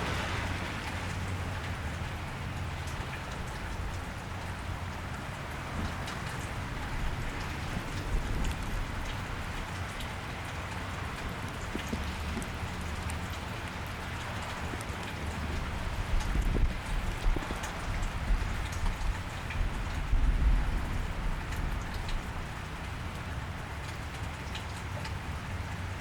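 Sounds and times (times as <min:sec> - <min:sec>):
rain falling on a street: 0:00.0 - 0:26.0.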